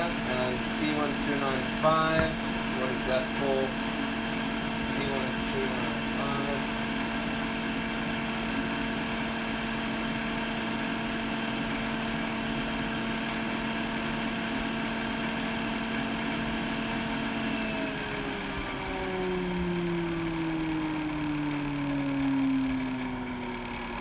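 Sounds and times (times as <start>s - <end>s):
electric fan motor humming: 0.0s - 24.0s.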